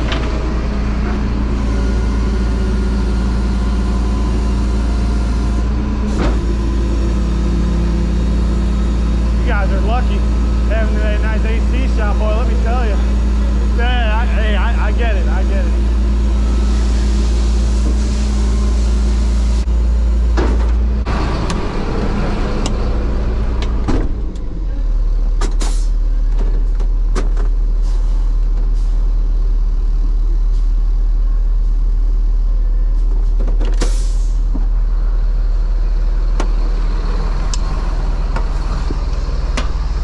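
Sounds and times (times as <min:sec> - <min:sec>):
truck engine droning: 0:00.0 - 0:40.0.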